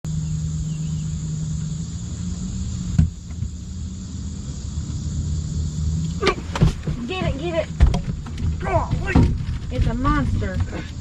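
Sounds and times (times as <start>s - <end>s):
constant low hum: 0.0s - 11.0s
crickets chirping: 0.0s - 11.0s.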